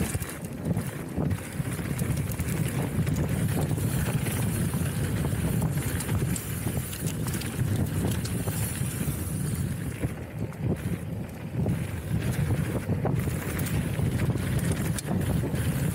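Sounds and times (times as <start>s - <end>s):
bike tyres rumbling: 0.0s - 15.9s
wind buffeting microphone: 0.0s - 15.9s.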